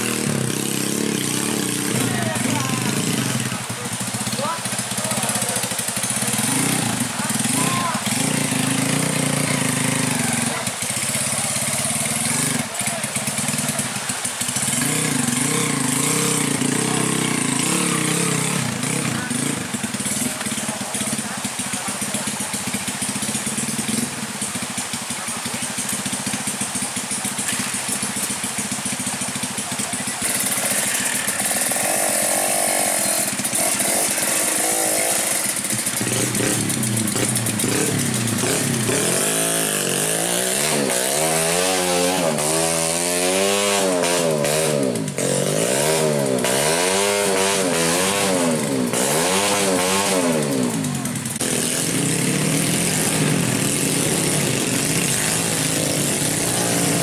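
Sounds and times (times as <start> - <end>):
dirt bike engines running: 0.0 - 57.0
engine revving: 0.0 - 57.0.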